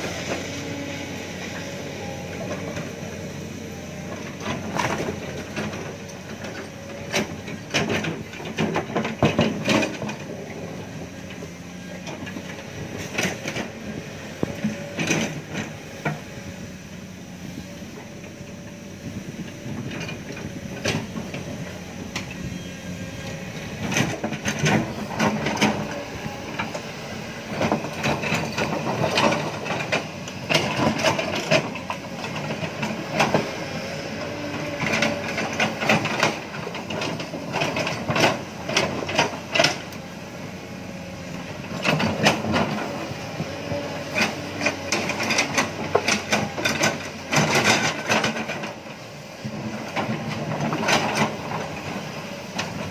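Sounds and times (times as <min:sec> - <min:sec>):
excavator clanks and clatter: 0:00.0 - 0:52.9
excavator engine running: 0:00.0 - 0:52.9.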